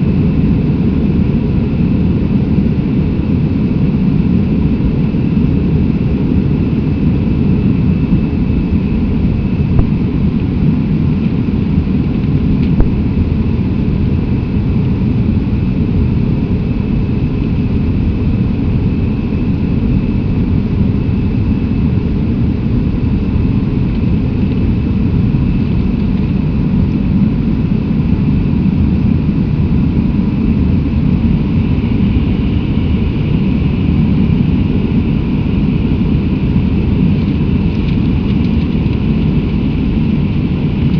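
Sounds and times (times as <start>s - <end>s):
faint high whine: 0.0s - 40.9s
jet engines rumbling in flight: 0.0s - 40.9s.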